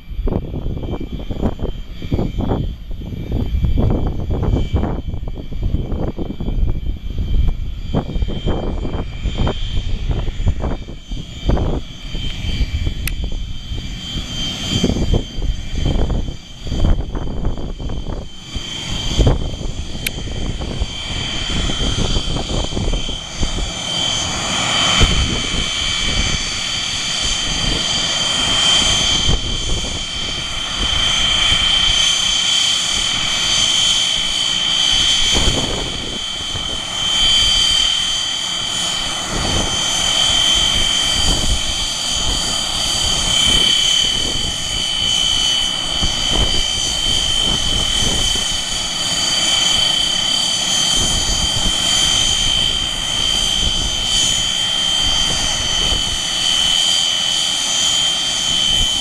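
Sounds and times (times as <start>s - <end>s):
jet engines whining: 0.0s - 59.0s
wind buffeting microphone: 0.0s - 59.0s.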